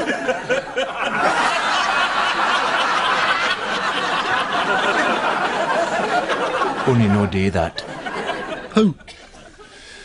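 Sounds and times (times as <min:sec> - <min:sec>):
crowd laughing: 0:00.0 - 0:09.9.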